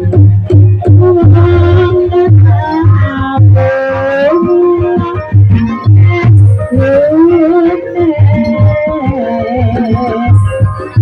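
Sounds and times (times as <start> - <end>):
deep drum beats: 0.0 - 11.0
wavering melodic line: 0.7 - 11.0.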